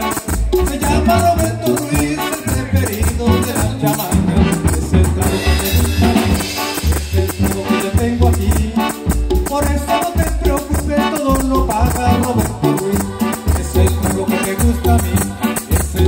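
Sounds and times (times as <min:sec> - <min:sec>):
electronic keyboard melody: 0:00.0 - 0:16.0
steady drum beat: 0:00.0 - 0:16.0.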